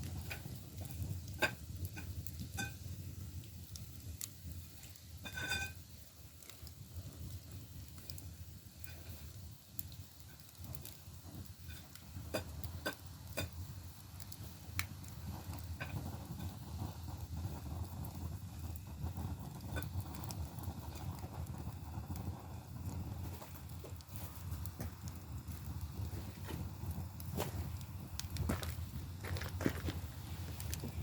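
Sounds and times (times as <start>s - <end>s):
fire crackling and popping: 0.0s - 31.0s
low roar of fire: 0.0s - 31.0s.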